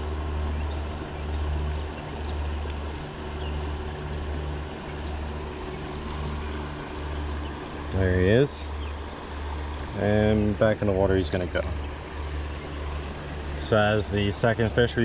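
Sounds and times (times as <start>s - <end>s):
creek water running: 0.0s - 15.0s
low steady hum: 0.0s - 15.0s.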